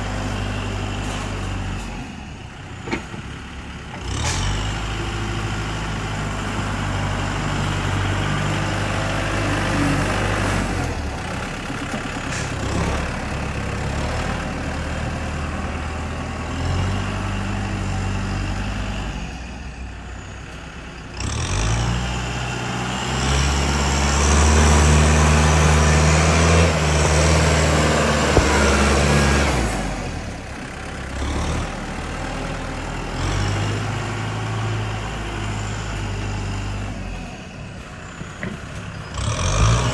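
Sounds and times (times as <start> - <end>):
engine revving under load: 0.0 - 39.9
heavy diesel machinery engines: 0.0 - 39.9.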